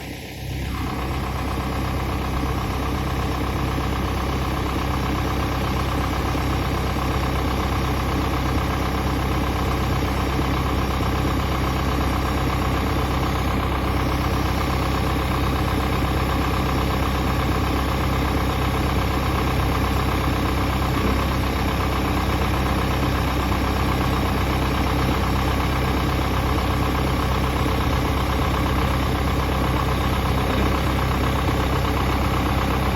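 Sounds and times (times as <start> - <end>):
tractor diesel engine idling: 0.0 - 32.9.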